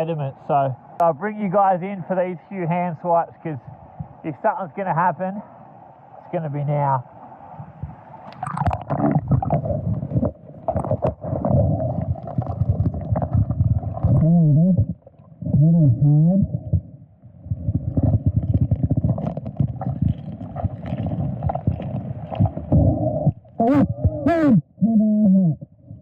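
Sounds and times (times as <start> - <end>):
muffled underwater rumbling and gurgling: 0.0 - 26.0.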